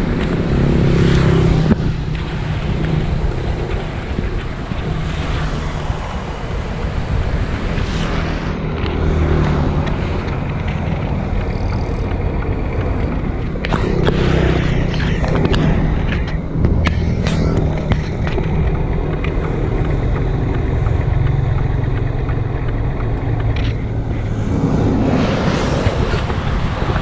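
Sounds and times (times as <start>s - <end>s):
diesel engine running: 0.0s - 27.0s
wind noise on microphone: 0.0s - 27.0s.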